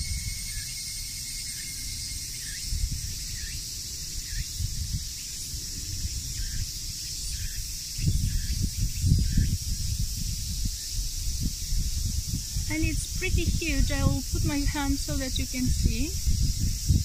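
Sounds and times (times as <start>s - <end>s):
cicadas hissing: 0.0s - 17.0s.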